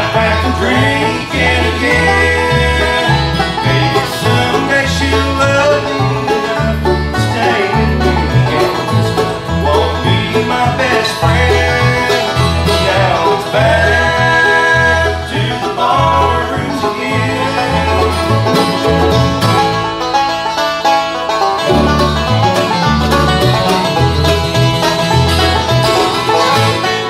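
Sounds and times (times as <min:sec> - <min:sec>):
bluegrass band playing: 0:00.0 - 0:27.0
upright bass plucking: 0:00.0 - 0:27.0.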